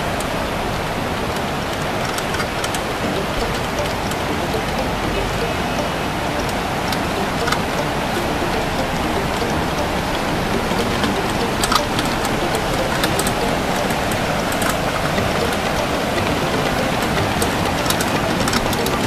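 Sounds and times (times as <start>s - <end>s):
fast-flowing river rushing: 0.0s - 19.0s.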